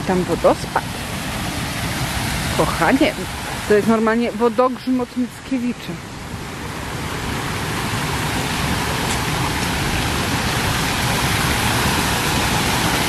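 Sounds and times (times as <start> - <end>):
small waterfall pouring: 0.2 - 4.6, 6.4 - 13.0.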